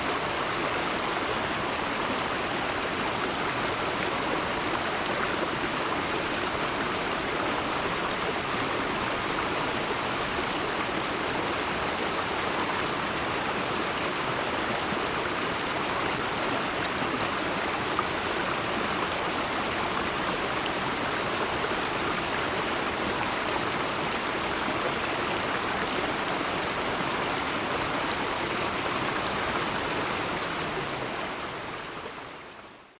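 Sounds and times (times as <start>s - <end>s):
rush of flowing water: 0.0s - 33.0s.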